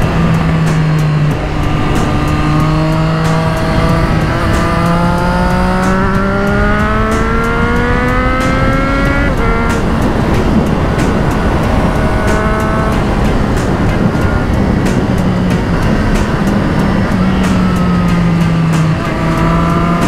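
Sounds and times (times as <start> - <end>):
motorcycle engine revving: 0.0 - 20.0
wind buffeting microphone: 0.0 - 20.0.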